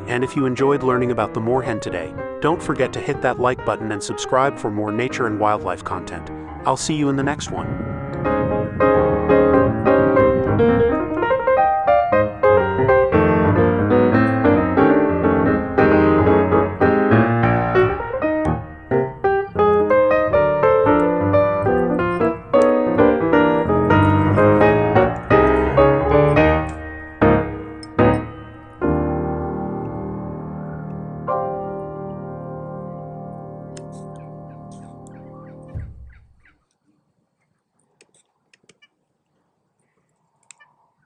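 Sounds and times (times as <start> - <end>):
piano music: 0.0 - 36.4.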